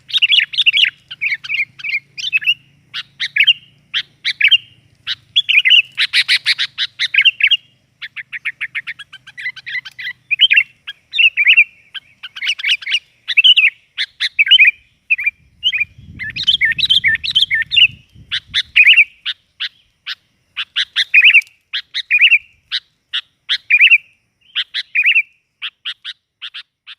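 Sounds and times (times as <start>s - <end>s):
bulbuls chirping and whistling: 0.0s - 26.9s.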